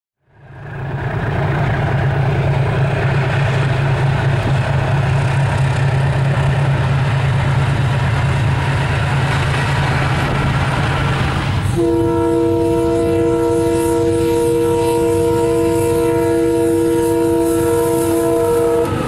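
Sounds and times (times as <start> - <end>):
diesel locomotive engine drone: 0.2 - 19.0.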